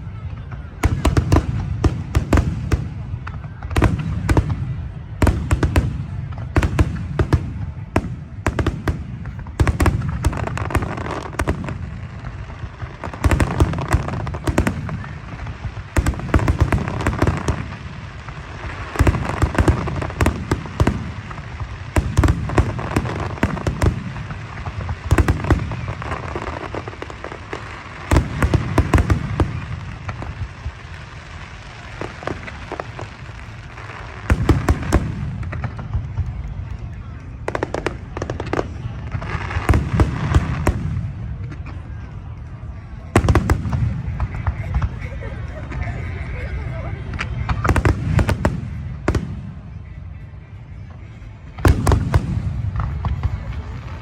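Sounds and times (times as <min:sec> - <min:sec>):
fireworks bangs: 0:00.0 - 0:54.0
fireworks crackle: 0:00.0 - 0:54.0
fireworks low booms: 0:00.0 - 0:54.0.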